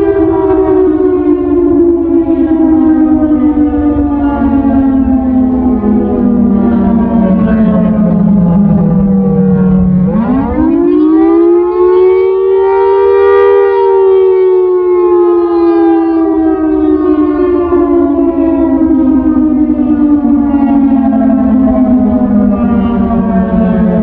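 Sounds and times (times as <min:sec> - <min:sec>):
air raid siren wailing: 0:00.0 - 0:24.0.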